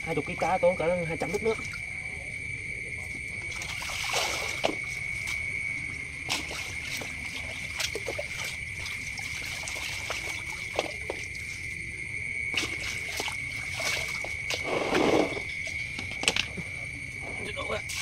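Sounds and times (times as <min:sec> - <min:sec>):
water sloshing in a plastic basin: 0:00.1 - 0:02.0, 0:02.9 - 0:18.0.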